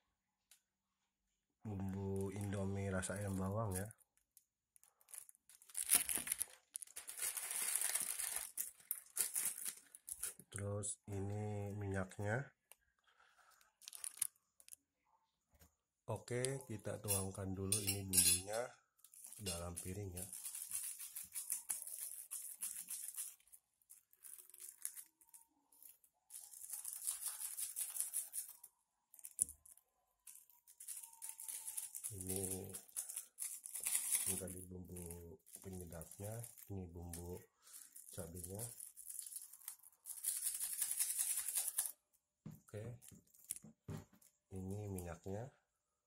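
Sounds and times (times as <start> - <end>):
plastic wrapper crinkling: 1.7 - 14.9, 19.0 - 42.1, 43.0 - 45.1.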